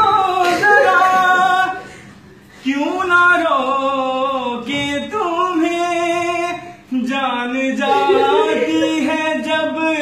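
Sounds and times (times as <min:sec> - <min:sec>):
man singing unaccompanied: 0:00.0 - 0:01.9, 0:02.6 - 0:10.0.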